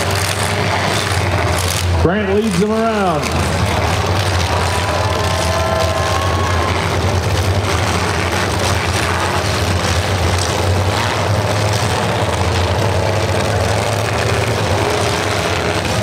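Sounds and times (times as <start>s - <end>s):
car engines rumbling: 0.0s - 16.0s.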